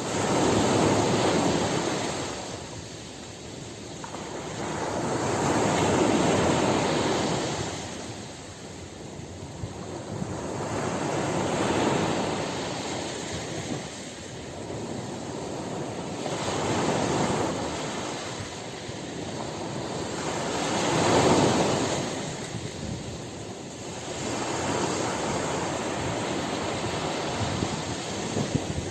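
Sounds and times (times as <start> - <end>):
ocean waves breaking on shore: 0.0 - 28.9.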